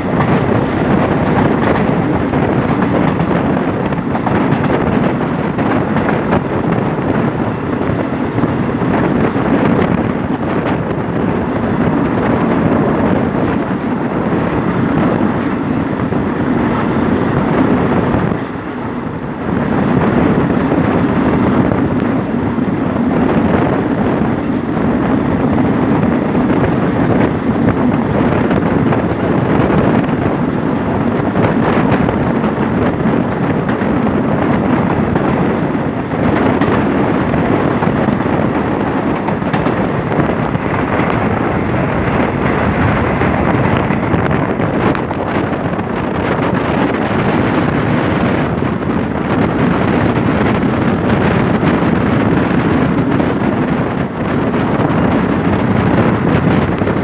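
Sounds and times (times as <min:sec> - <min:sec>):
train rumbling along rails: 0:00.0 - 0:57.0
wind rushing past microphone: 0:00.0 - 0:57.0.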